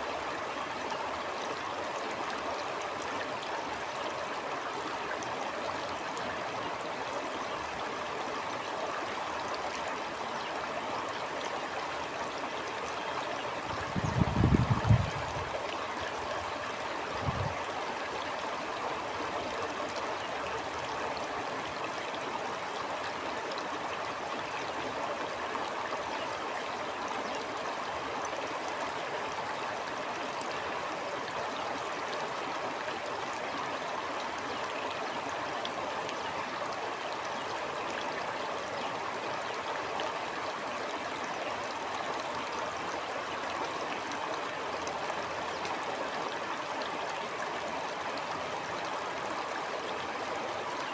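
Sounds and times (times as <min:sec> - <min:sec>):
stream flowing: 0:00.0 - 0:50.9.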